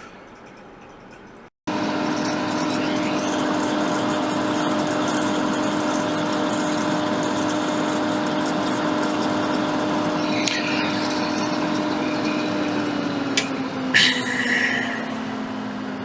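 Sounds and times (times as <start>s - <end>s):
fan hum: 1.7s - 16.0s
hot air blower hissing: 1.7s - 16.0s.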